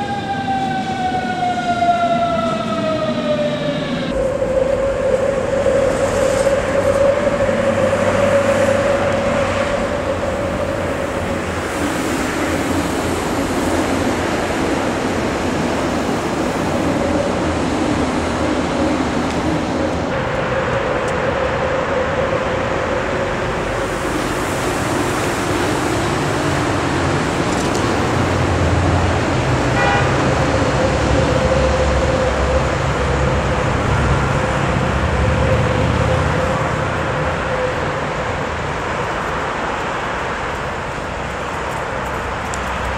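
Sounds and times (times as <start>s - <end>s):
city street traffic: 0.0s - 42.9s
train rumbling on steel viaduct: 0.0s - 42.9s.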